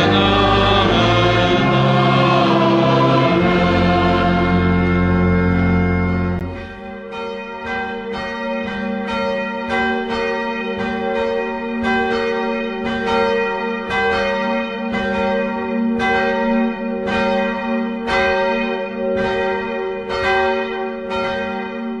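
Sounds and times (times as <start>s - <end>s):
church bells pealing: 0.0s - 22.0s.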